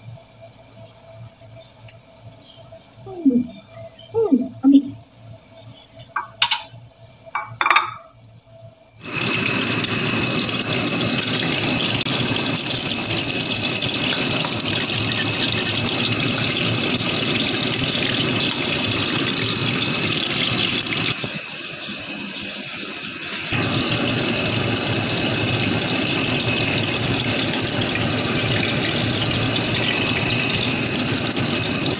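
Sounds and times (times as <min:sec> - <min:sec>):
food deep-frying in oil: 0:00.0 - 0:31.9.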